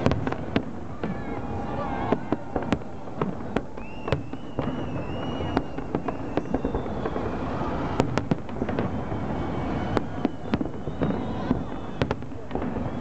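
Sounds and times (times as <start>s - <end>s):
firework whistle: 0.0s - 13.0s
fireworks bangs: 0.0s - 13.0s.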